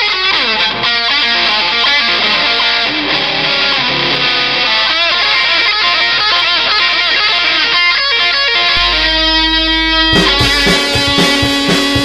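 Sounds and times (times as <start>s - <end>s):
rock music with electric guitar: 0.0s - 12.0s.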